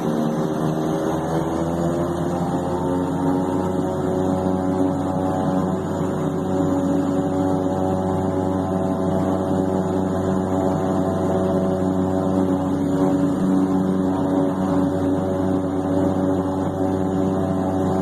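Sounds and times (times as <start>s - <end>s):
turboprop engines humming: 0.0s - 18.0s.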